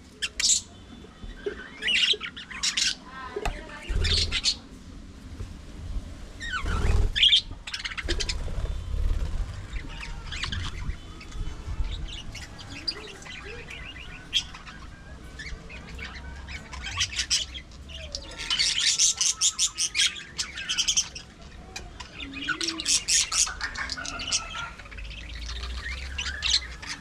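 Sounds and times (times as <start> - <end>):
budgerigars chattering and chirping: 1.4 - 3.0, 3.8 - 4.6, 6.4 - 27.0.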